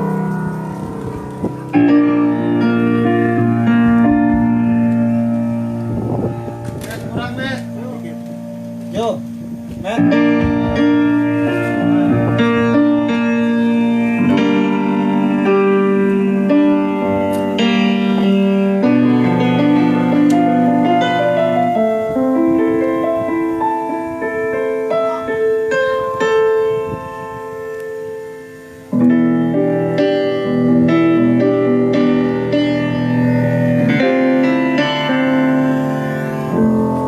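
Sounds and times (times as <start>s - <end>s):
piano-like keyboard chords: 0.0s - 37.0s.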